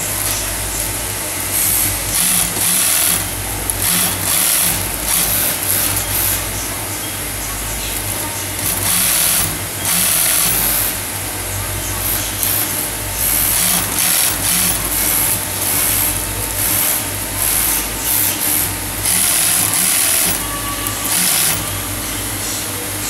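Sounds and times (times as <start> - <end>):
sewing machine stitching: 0.0 - 6.5, 7.9 - 11.2, 12.0 - 21.8
sewing machine motor hum: 0.0 - 22.5.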